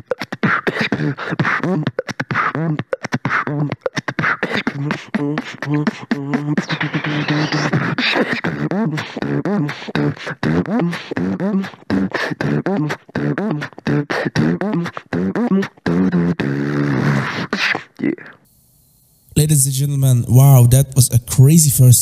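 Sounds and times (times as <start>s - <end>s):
beatboxing with hummed melody: 0.0s - 18.5s.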